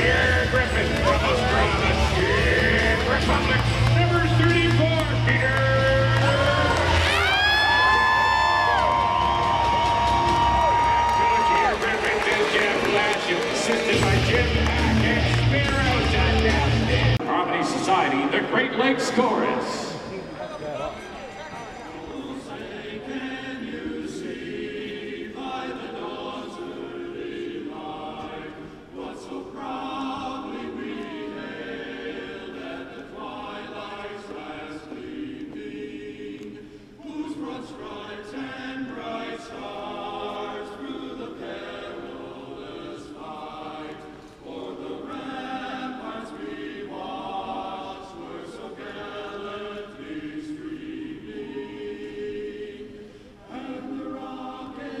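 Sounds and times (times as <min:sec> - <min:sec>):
anthem singing in arena: 0:00.0 - 0:20.3, 0:21.4 - 0:55.0.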